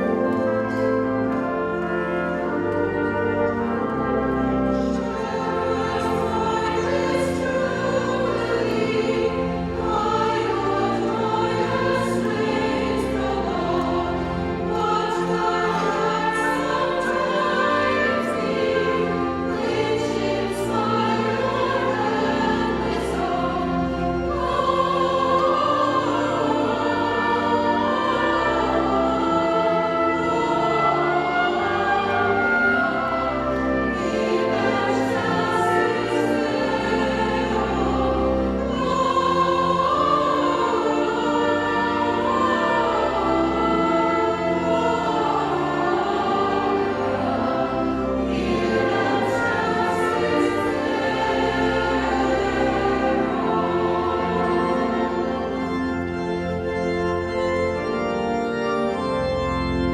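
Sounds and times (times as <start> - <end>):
choir with orchestra and brass: 0.0 - 59.9.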